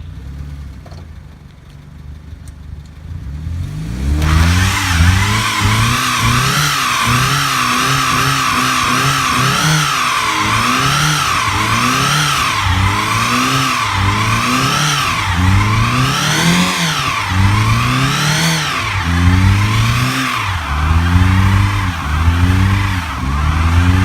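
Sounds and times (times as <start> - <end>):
car engine revving: 3.0 - 24.0.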